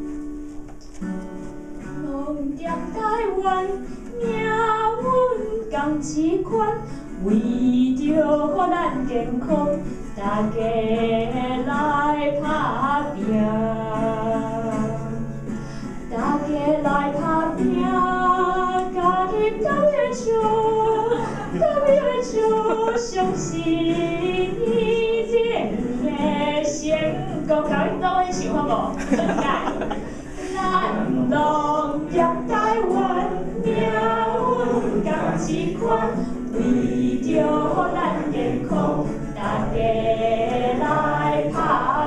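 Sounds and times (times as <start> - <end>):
guitar accompaniment: 0.0 - 42.0
woman singing into microphone: 2.0 - 15.3, 16.1 - 42.0.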